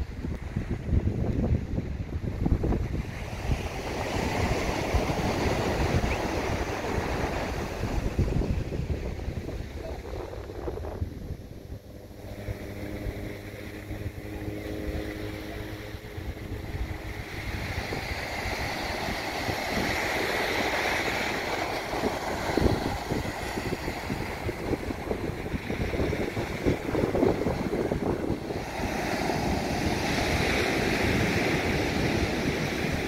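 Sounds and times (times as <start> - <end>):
waves breaking on a beach: 0.0 - 33.0
wind on microphone: 0.0 - 33.0.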